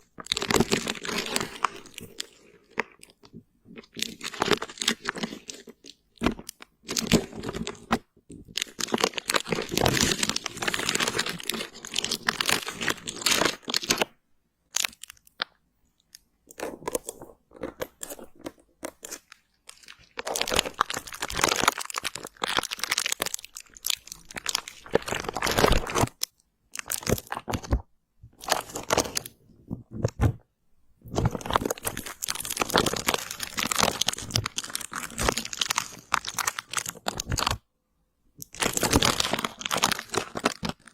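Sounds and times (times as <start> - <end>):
crunching and crinkling: 0.0 - 37.6, 38.4 - 40.9.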